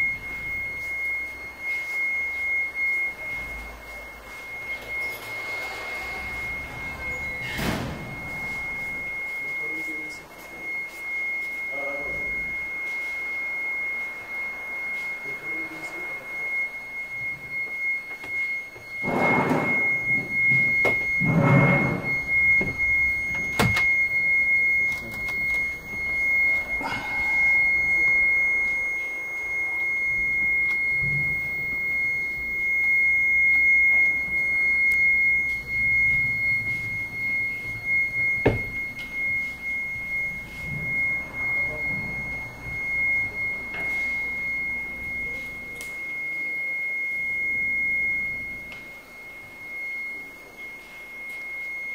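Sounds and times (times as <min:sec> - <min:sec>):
steady high-pitched tone: 0:00.0 - 0:51.9.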